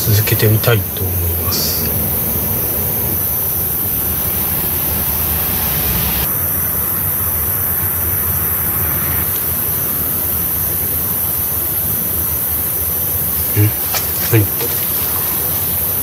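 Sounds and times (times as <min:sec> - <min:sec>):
steady hissing noise: 0:00.0 - 0:16.0.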